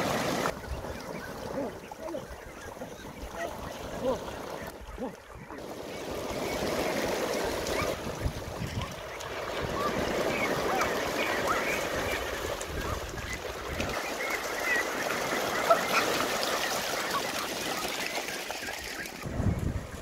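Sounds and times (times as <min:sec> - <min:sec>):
ducks quacking: 0:00.0 - 0:19.2
water splashing from wading: 0:00.0 - 0:20.0.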